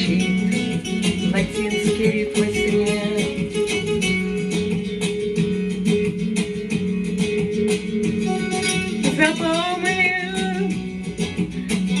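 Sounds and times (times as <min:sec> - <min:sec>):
bass line: 0:00.0 - 0:12.0
strummed acoustic guitars: 0:00.0 - 0:12.0.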